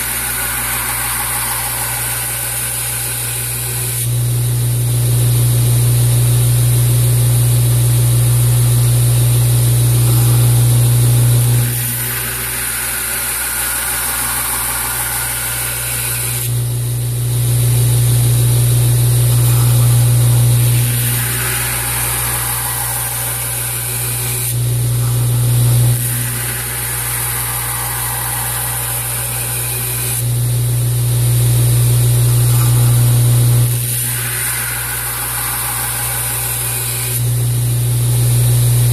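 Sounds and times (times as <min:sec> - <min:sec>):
belt grinder grinding steel: 0:00.0 - 0:04.3, 0:09.4 - 0:16.8, 0:17.5 - 0:38.9.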